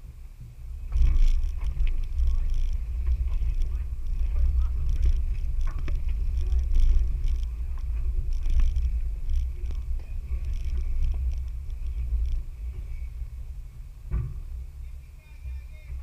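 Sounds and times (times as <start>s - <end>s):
vehicle engine rumble: 0.0s - 16.0s
knocks and rattles: 0.5s - 14.8s.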